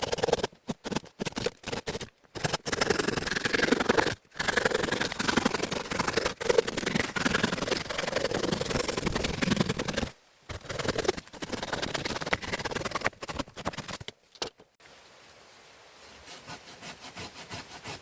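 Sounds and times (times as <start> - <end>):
hand saw cutting wood: 0.0 - 14.0, 16.3 - 18.0.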